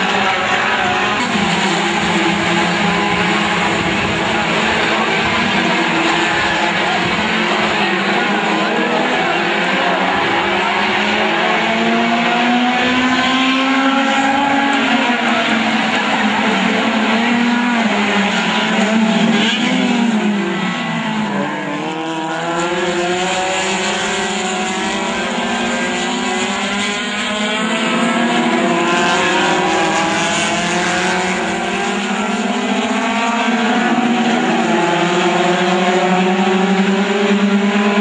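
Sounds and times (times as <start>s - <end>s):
race car engines at full throttle: 0.0s - 38.0s.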